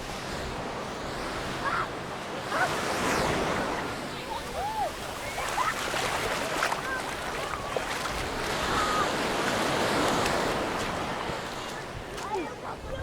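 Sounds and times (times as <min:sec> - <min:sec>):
small waves washing onto sand: 0:00.0 - 0:13.0.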